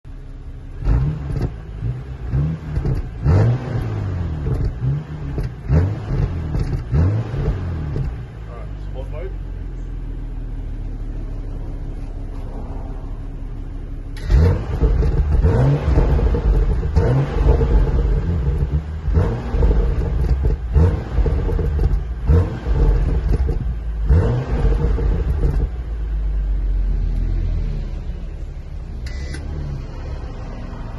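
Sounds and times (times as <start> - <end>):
car engine revving: 0.5 - 30.9.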